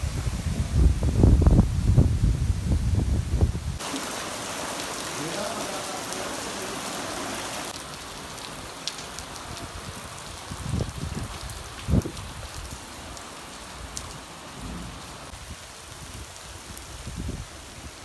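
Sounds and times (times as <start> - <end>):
heavy rain splashing on puddles: 0.0 - 18.0.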